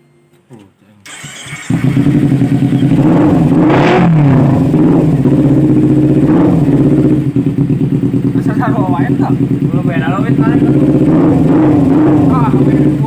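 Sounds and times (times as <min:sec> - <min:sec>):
motorcycle engine throttle blips: 0:00.5 - 0:13.0.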